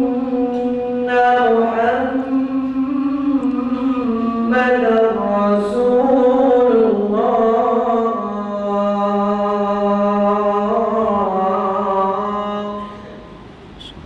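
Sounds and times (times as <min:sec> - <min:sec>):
call to prayer chanted: 0:00.0 - 0:14.0.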